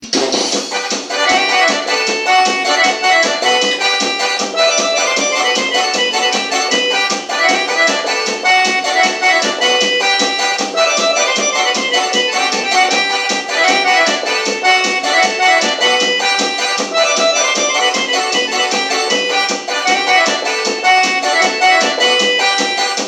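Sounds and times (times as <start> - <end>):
rhythm accompaniment: 0.0 - 23.0
electronic keyboard accordion melody: 0.6 - 23.0.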